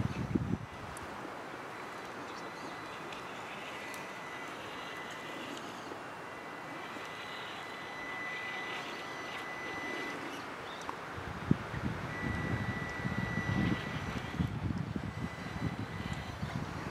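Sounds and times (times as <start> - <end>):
outdoor background drone: 0.0 - 16.9
thin high whine: 0.0 - 16.9.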